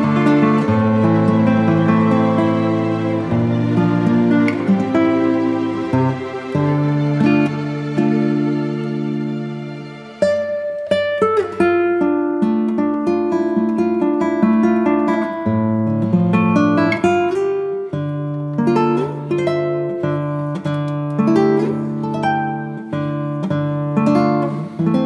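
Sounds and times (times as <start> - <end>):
acoustic guitar picking: 0.0 - 25.0.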